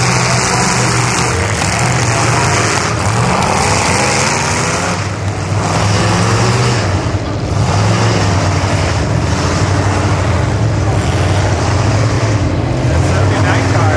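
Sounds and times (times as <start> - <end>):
diesel engine revving loudly: 0.0 - 13.9.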